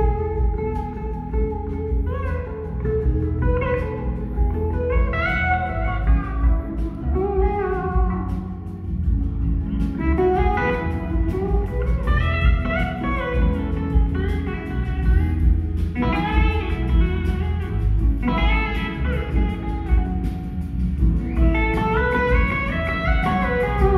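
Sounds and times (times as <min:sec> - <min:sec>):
electric slide guitar lead: 0:00.0 - 0:23.9
live rock band playing ballad: 0:00.0 - 0:23.9.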